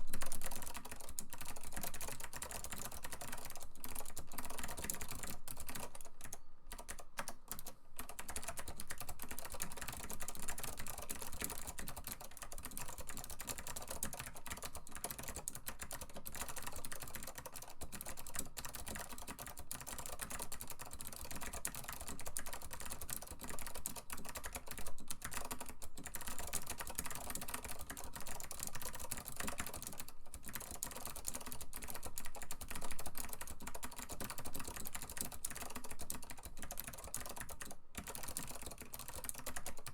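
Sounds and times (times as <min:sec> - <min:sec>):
fast clicky keyboard typing: 0:00.0 - 0:39.9.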